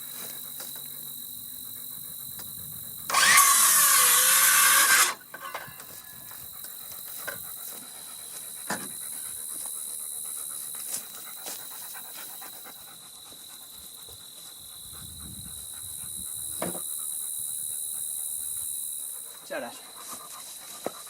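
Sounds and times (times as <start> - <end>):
dog panting: 0.2 - 3.1, 6.3 - 21.0.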